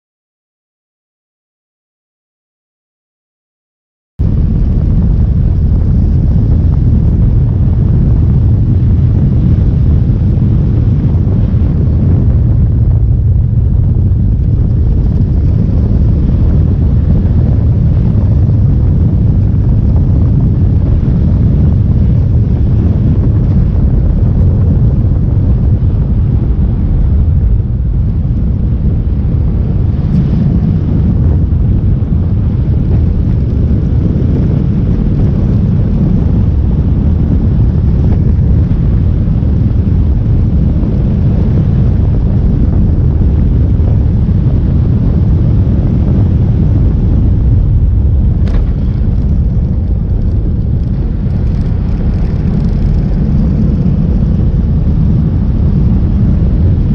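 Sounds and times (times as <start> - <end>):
motorcycle engine droning: 4.2 - 56.9
wind buffeting microphone: 4.2 - 56.9.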